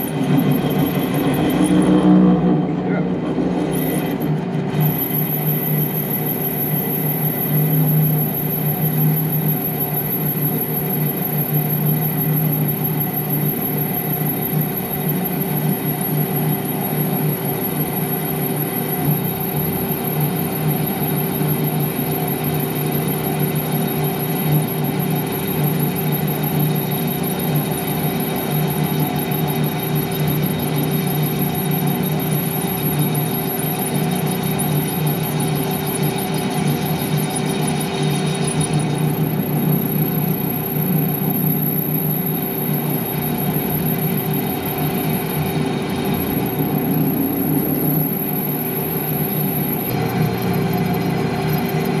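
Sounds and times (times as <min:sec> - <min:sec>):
lathe running hum: 0:00.0 - 0:52.0.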